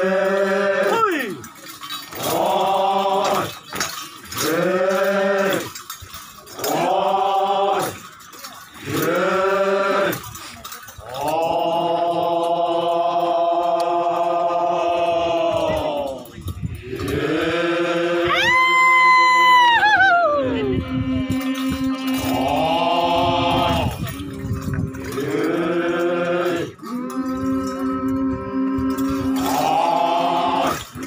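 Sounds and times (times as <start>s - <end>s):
group chanting in unison: 0.0s - 1.4s, 2.1s - 3.7s, 4.4s - 5.8s, 6.6s - 8.1s, 8.8s - 10.3s, 11.0s - 18.5s, 20.5s - 31.0s
metal ornaments clinking: 0.0s - 31.0s.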